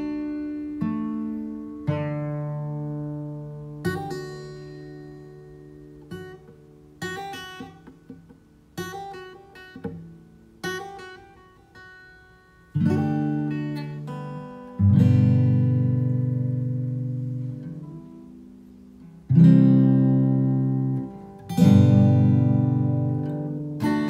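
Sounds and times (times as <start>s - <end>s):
acoustic guitar chords: 0.0s - 24.0s.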